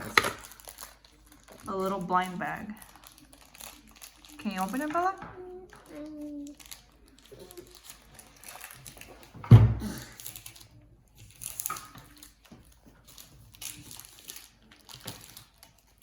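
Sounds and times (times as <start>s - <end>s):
plastic wrapper crinkling and tearing: 0.0s - 16.0s.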